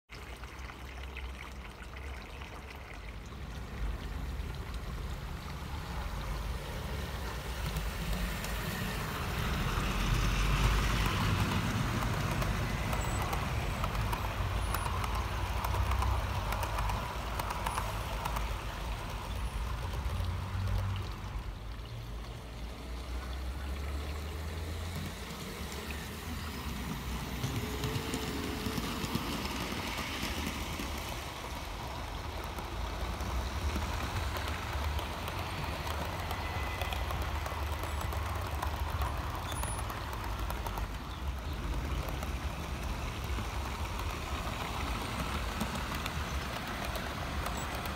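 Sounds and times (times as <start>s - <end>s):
model train wheels rumbling on track: 0.1s - 47.9s.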